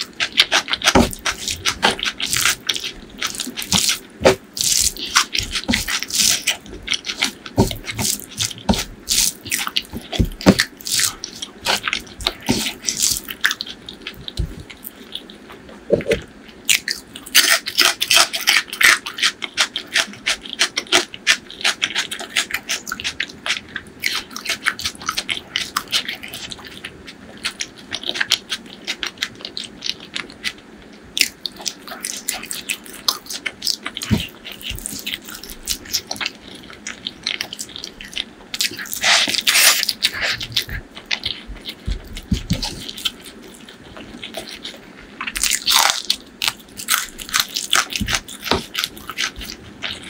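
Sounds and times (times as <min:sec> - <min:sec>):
crunchy bites: 0:00.0 - 0:26.8, 0:31.2 - 0:50.0
wet chewing: 0:00.0 - 0:50.0.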